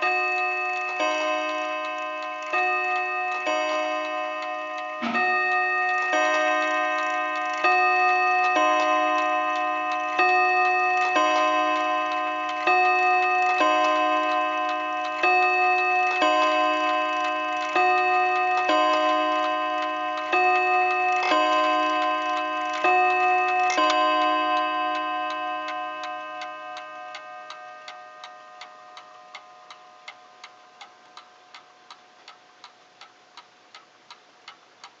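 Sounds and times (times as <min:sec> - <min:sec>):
clock chime striking: 0:00.0 - 0:32.0
clock ticking: 0:00.0 - 0:35.0.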